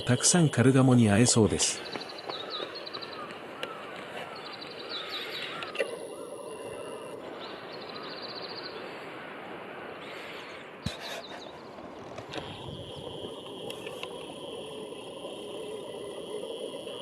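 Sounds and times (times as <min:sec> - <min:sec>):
birds calling: 0:00.0 - 0:17.0
high trilling bird calls: 0:00.0 - 0:17.0
outdoor background hiss: 0:00.0 - 0:17.0.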